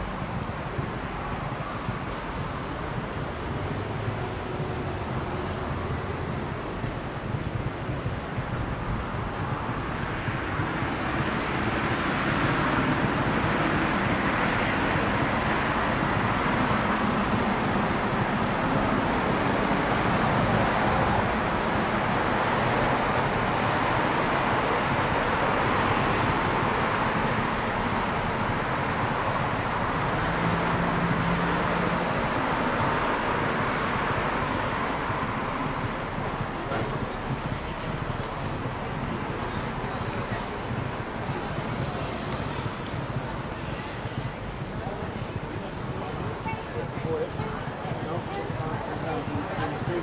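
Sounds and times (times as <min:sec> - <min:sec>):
passing car traffic: 0:00.0 - 0:50.0.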